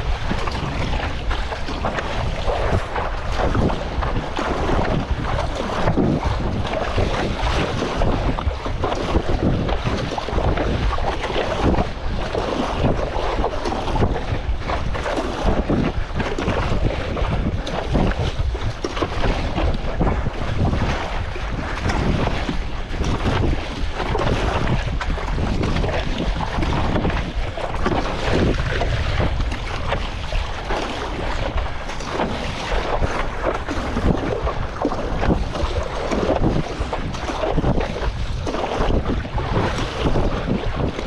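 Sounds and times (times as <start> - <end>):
sea water splashing and slapping: 0.0 - 41.0
wind buffeting microphone: 0.0 - 41.0.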